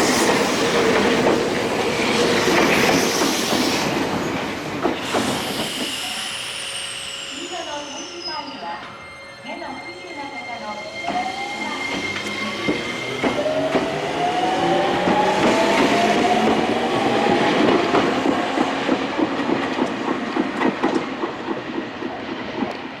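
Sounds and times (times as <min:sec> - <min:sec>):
train wheels clacking: 0:00.0 - 0:09.1, 0:10.2 - 0:23.0
train running roar: 0:00.0 - 0:23.0.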